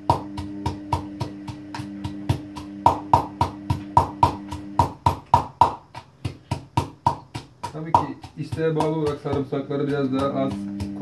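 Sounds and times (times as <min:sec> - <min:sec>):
pestle pounding in a mortar: 0:00.0 - 0:11.0.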